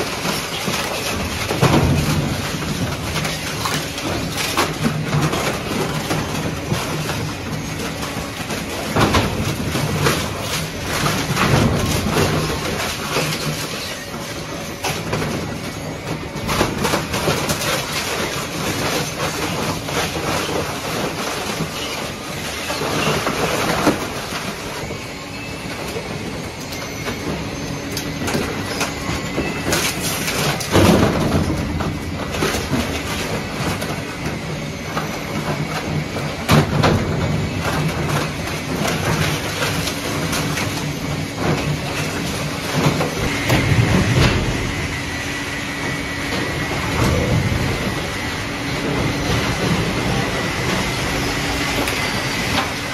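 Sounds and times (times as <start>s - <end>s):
shredder crunching panels: 0.0s - 52.9s.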